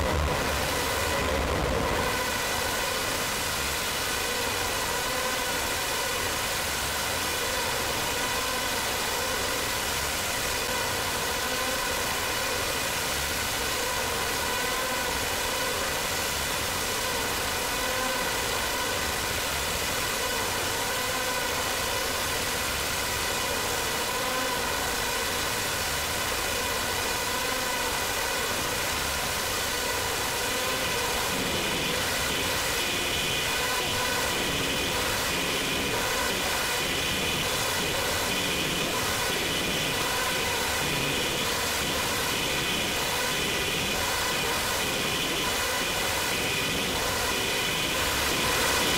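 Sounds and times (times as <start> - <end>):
noisy feedback drone with ringing tones: 0.0 - 48.9.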